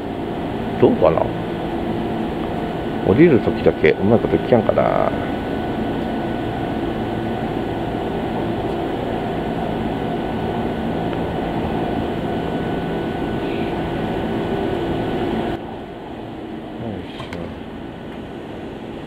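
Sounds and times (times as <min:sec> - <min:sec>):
electric train drone: 0:00.0 - 0:19.0.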